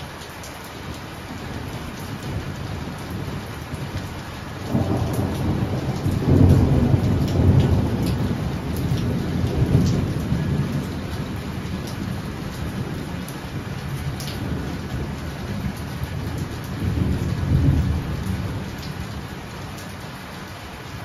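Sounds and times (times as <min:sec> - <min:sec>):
heavy rain: 0:00.0 - 0:21.0
thunder rumble: 0:01.4 - 0:19.5.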